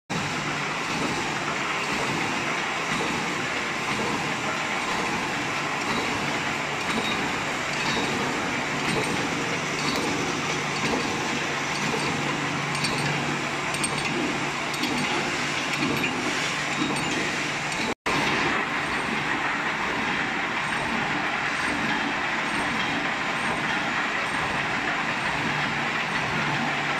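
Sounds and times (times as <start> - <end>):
machine mechanical clatter: 0.1 - 26.9.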